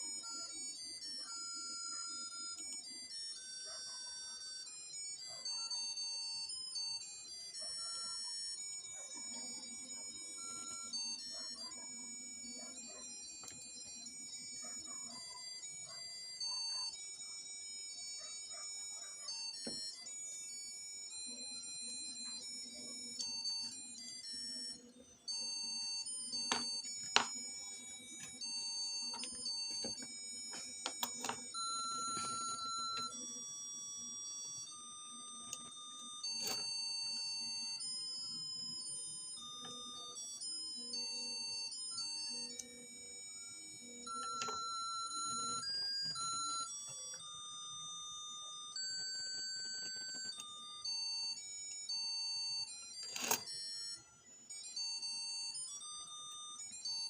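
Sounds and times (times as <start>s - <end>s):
electronic beeping melody: 8.0s - 33.4s, 34.0s - 57.0s.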